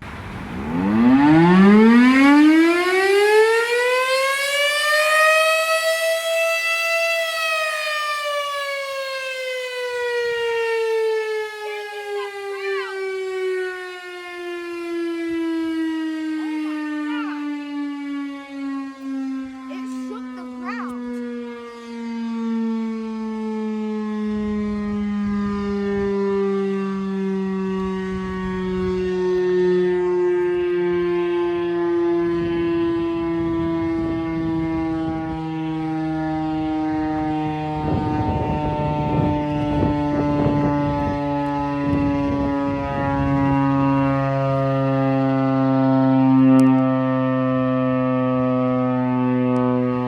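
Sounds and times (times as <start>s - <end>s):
warning siren steady tone: 0.0s - 50.0s.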